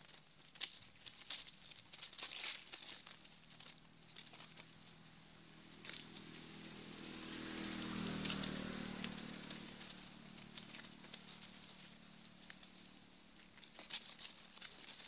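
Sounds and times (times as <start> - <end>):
dry leaves rustling and crackling: 0.0 - 15.0
vehicle engine hum passing: 2.9 - 15.0.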